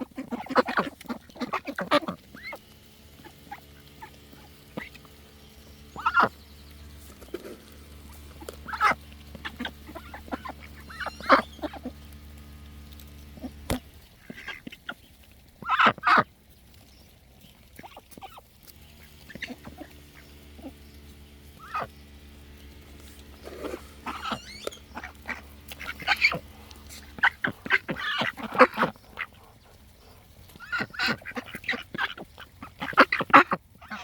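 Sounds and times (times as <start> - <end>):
ducks quacking: 0.0 - 34.0
faint low hum: 0.0 - 34.0.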